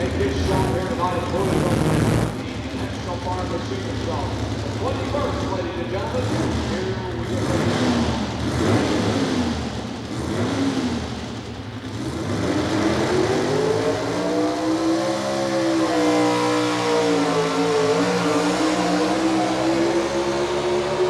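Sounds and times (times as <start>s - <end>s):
truck engine at full throttle: 0.0s - 21.0s.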